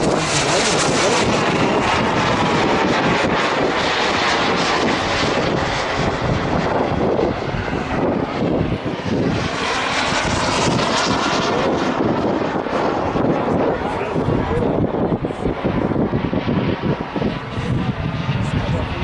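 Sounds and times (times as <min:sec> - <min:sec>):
model jet flying past: 0:00.0 - 0:19.0.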